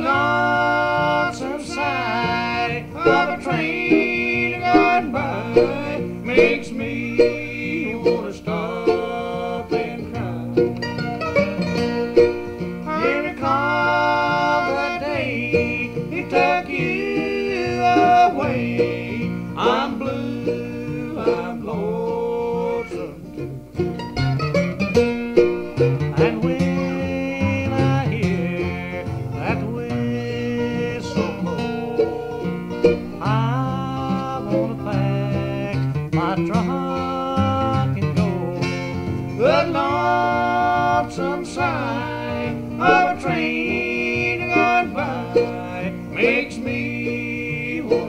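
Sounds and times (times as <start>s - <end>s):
bluegrass plucked strings: 0.0s - 48.0s.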